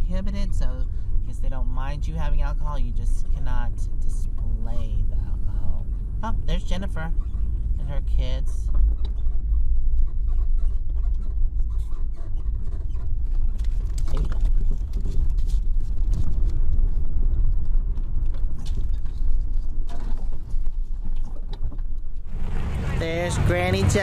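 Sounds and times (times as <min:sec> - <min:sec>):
vehicle engine and tyres rumbling: 0:00.0 - 0:24.0.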